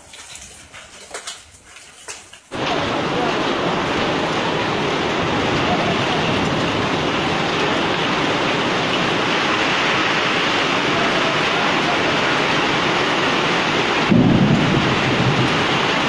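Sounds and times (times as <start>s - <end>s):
heavy rain and hail: 2.5s - 16.0s.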